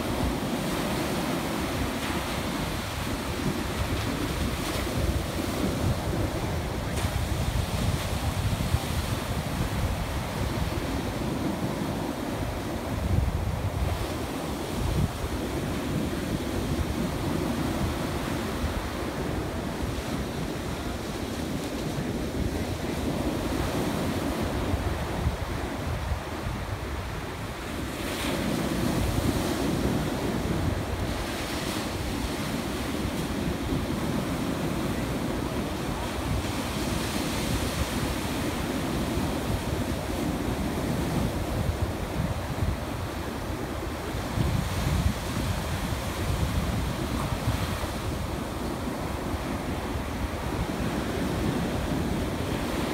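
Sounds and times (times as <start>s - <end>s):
ocean surf breaking: 0.0s - 52.9s
wind rumbling on microphone: 0.0s - 52.9s.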